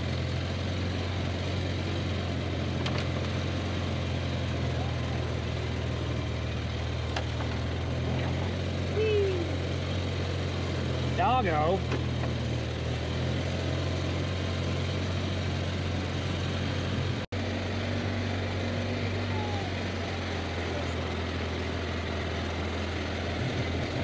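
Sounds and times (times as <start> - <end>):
utility vehicle engine humming: 0.0 - 24.0.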